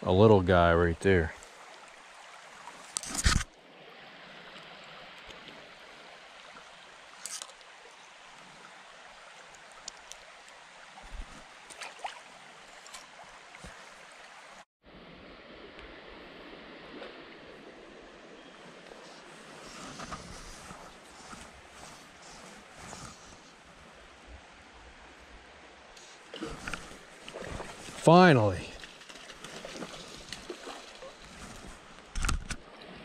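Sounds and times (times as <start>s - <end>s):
creek running over gravel: 0.1s - 33.0s.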